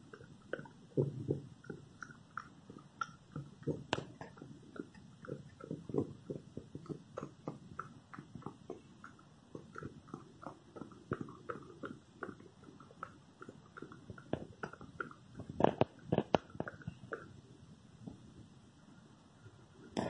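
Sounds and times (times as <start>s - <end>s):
puppy mouth and nose noises: 0.0s - 18.5s.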